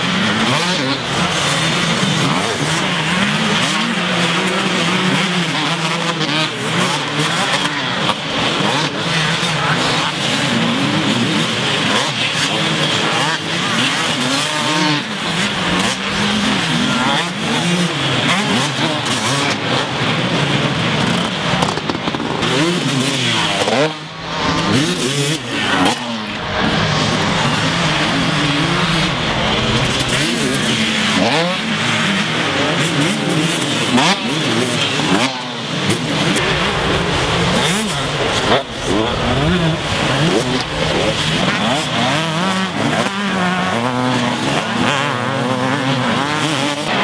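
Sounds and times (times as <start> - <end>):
motocross bikes revving: 0.0 - 47.0.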